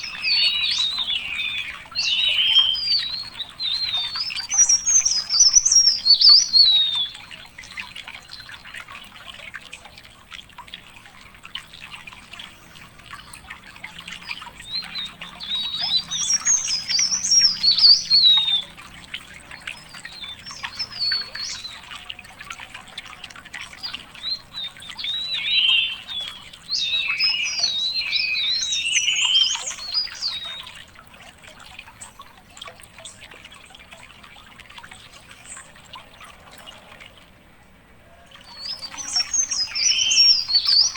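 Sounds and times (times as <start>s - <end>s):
songbirds warbling: 0.0s - 40.9s.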